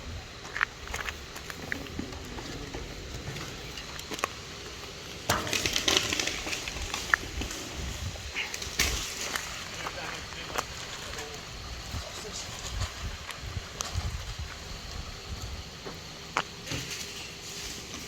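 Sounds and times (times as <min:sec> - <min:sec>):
branches crackling and snapping: 0:00.4 - 0:15.5.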